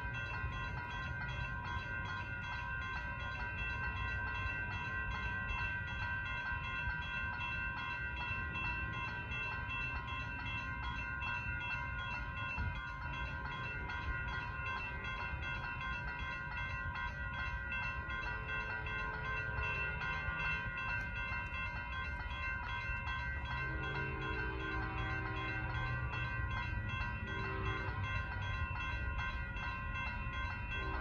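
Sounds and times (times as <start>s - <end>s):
railroad crossing bells ringing: 0.0s - 31.0s.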